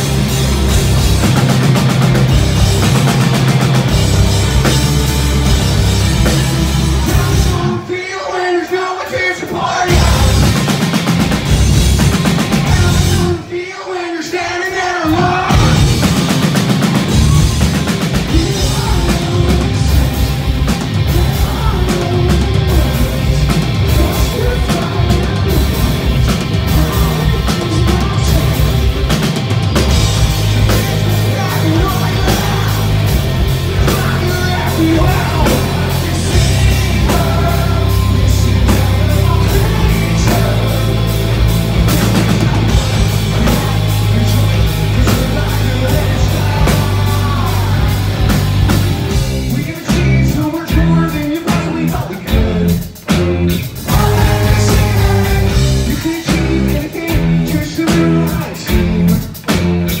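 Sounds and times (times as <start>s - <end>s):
electric guitar: 0.0s - 7.8s, 15.1s - 60.0s
bass guitar: 0.0s - 7.9s, 9.5s - 13.5s, 15.1s - 60.0s
drum kit: 0.0s - 13.6s, 14.3s - 60.0s.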